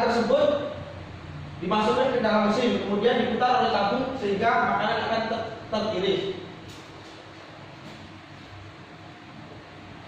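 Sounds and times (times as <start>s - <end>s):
faint microphone hiss and hum: 0.0s - 10.0s.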